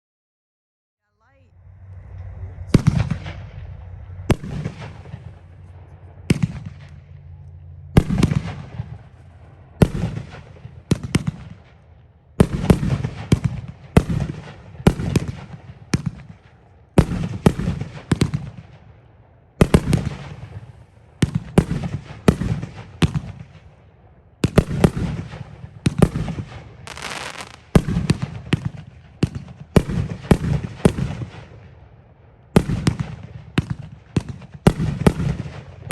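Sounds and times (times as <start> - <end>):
fireworks bangs: 1.7 - 18.9, 19.6 - 23.8, 24.4 - 31.8, 32.5 - 35.9.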